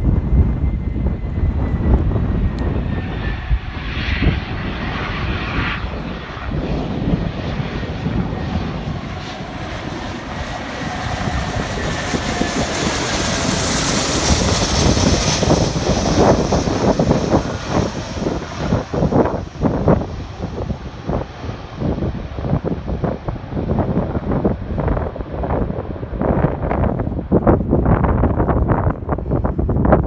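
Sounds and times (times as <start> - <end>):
aircraft engines rumbling: 0.0 - 30.0.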